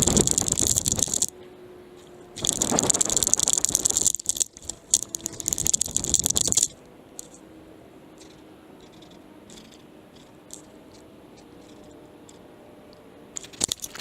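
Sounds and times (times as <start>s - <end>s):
camera rattling and scraping: 0.0s - 1.3s, 2.0s - 7.4s, 8.2s - 12.5s, 13.3s - 14.0s.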